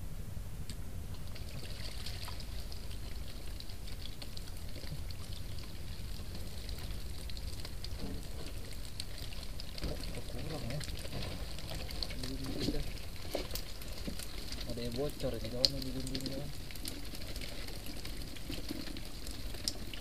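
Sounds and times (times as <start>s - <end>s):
water dripping: 1.1s - 20.0s
water splashing and trickling: 1.1s - 20.0s.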